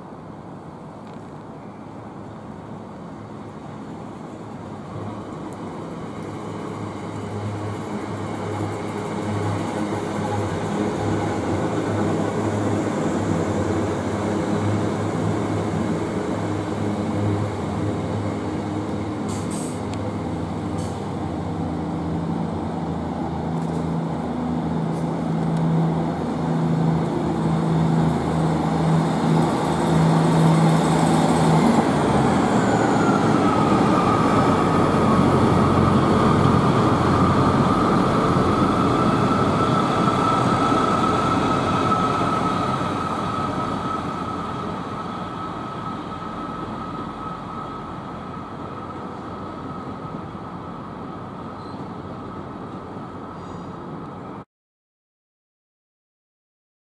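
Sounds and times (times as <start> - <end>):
diesel train engine running: 0.0 - 54.4
train high whine: 0.0 - 54.4.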